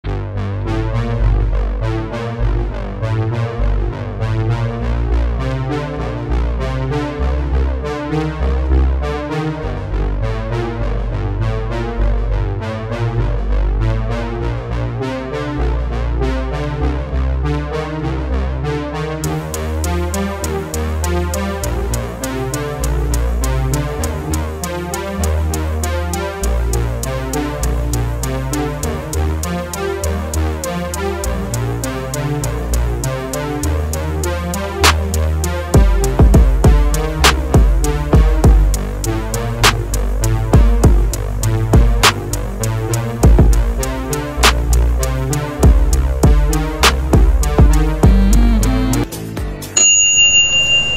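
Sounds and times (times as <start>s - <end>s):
deep bass line: 0.0s - 49.5s
synthesizer and keyboard music: 0.0s - 50.9s.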